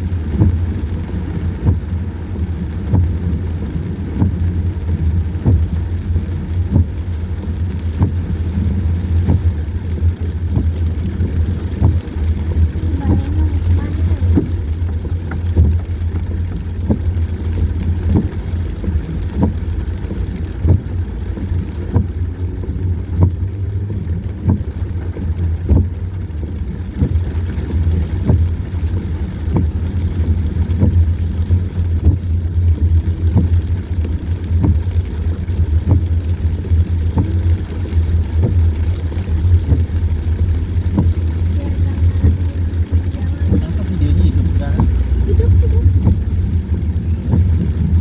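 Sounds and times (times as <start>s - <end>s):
car engine and road rumble: 0.0s - 48.0s
rain tapping on car: 0.0s - 48.0s.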